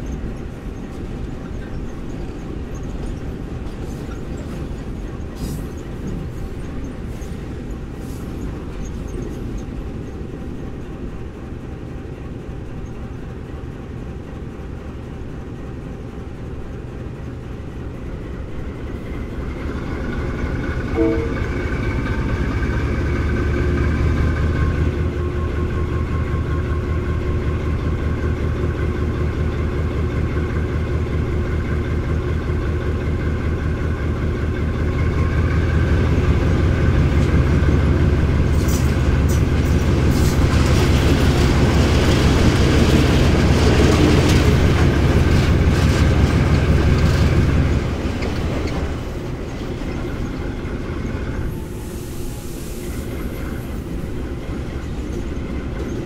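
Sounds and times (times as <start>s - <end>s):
diesel locomotive engine rumble: 0.0s - 56.0s.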